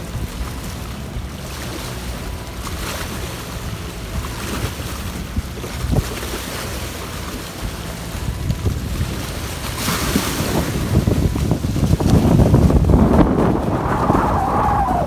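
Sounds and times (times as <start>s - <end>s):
waves splashing against rocks: 0.0s - 15.0s
wind buffeting microphone: 0.0s - 15.0s.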